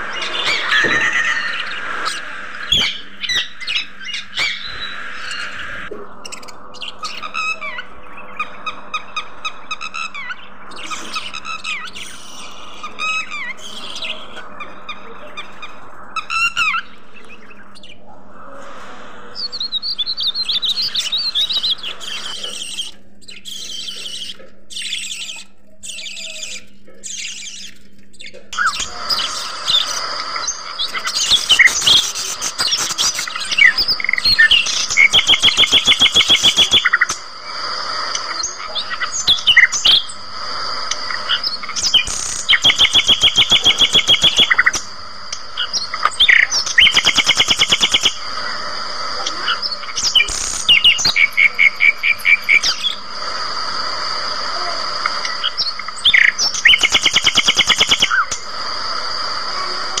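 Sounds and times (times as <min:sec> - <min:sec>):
fast rattling trills: 0:00.0 - 0:18.0, 0:19.7 - 1:00.0
budgerigars chirping and warbling: 0:00.0 - 0:18.1, 0:19.4 - 1:00.0.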